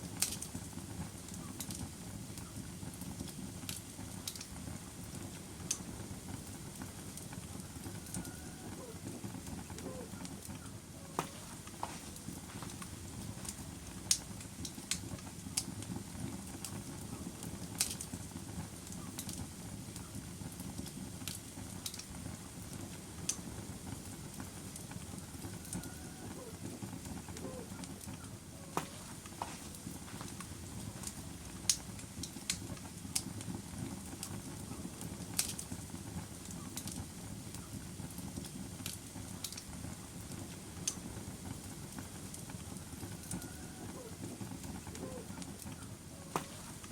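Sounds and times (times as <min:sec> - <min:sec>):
flames rustling: 0:00.0 - 0:46.9
wood crackling and popping: 0:00.0 - 0:46.9.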